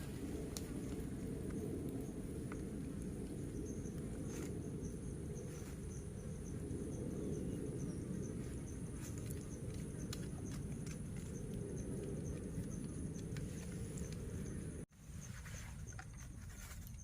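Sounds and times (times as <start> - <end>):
constant low rumble: 0.0 - 17.0
insects chirping in pulsing trill: 0.8 - 17.0.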